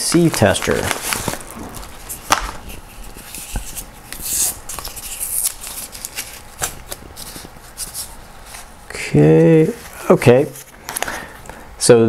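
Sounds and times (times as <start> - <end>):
cardboard parcel rustling and scraping: 0.0 - 10.8.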